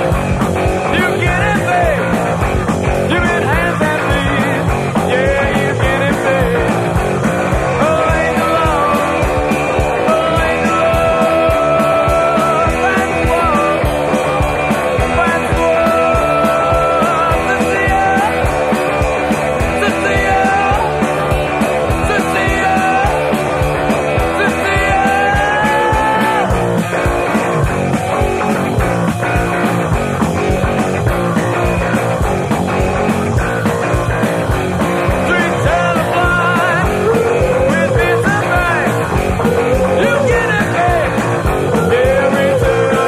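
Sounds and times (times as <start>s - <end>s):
rock music: 0.0s - 43.0s
steady drum beat: 0.0s - 43.0s.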